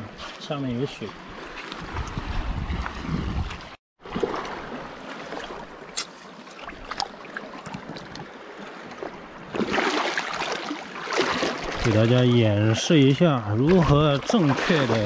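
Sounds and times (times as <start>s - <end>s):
water sloshing around wading feet: 1.0s - 15.0s.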